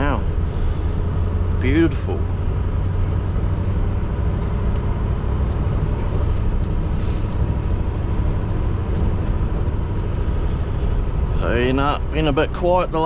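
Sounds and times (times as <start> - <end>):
road noise: 0.0 - 13.0
truck diesel engine running: 0.0 - 13.0.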